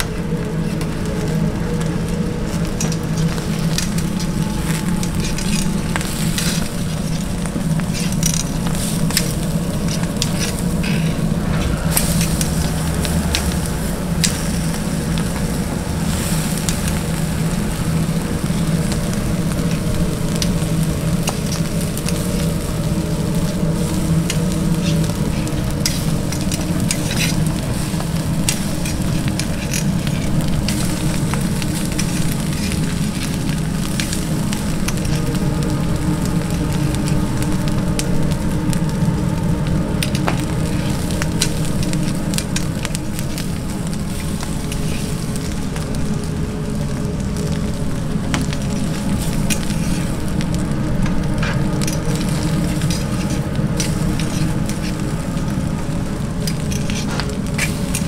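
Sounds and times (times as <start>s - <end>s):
fish sizzling on a grill: 0.0s - 58.0s
steady low hum: 0.0s - 58.0s.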